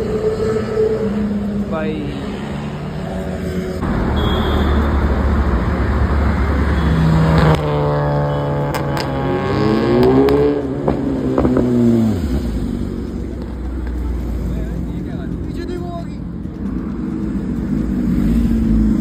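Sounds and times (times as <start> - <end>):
low traffic drone: 0.0 - 19.0
motorcycle revving and passing: 0.0 - 19.0
motorcycle engines running: 2.7 - 19.0.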